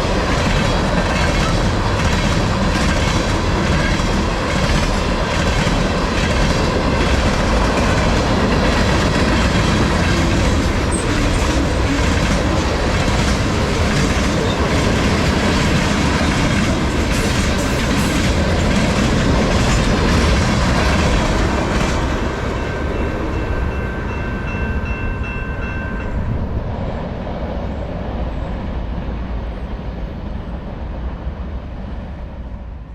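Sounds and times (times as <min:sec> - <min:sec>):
train cars clickety-clack: 0:00.0 - 0:26.8.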